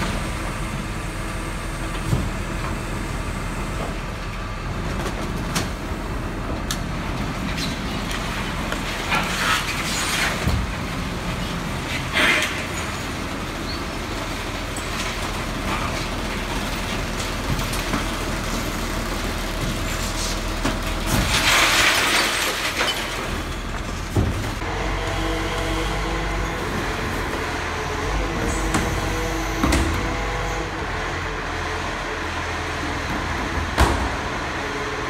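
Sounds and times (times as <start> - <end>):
garbage truck engine running: 0.0 - 35.0.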